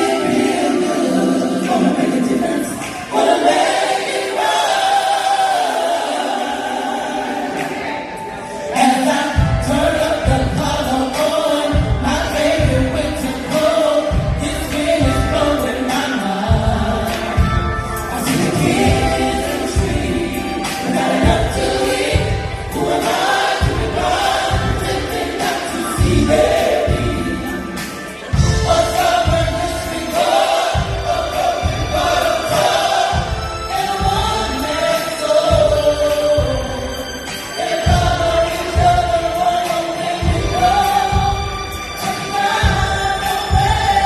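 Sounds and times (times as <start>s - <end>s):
choir singing gospel: 0.0s - 44.0s.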